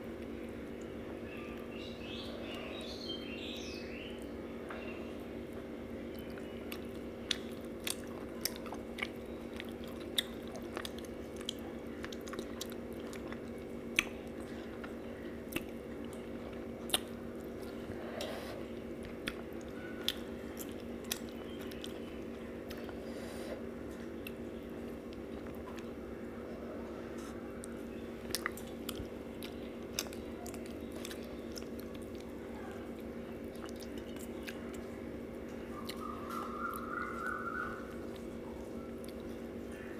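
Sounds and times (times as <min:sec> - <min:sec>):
steady low hum: 0:00.0 - 0:39.9
chewing and lip smacks: 0:05.5 - 0:26.0, 0:27.2 - 0:39.9.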